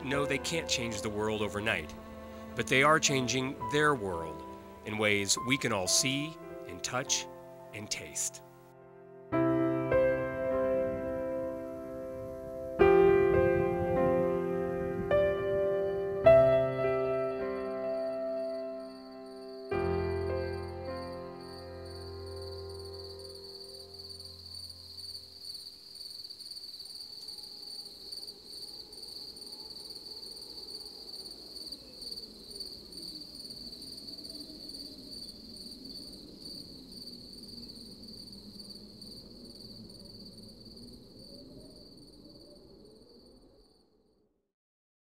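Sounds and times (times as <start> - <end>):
crickets chirping: 0.0 - 44.3.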